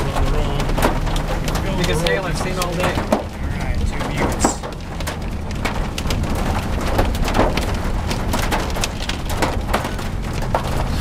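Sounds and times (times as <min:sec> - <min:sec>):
hailstones striking vehicle: 0:00.0 - 0:11.0
low road noise rumble: 0:00.0 - 0:11.0.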